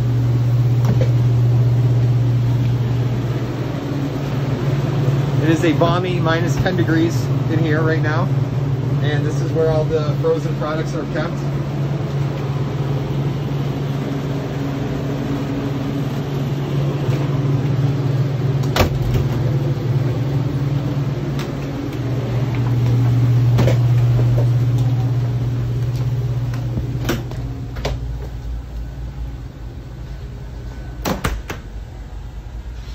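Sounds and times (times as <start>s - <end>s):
refrigeration fans humming: 0.0s - 32.9s.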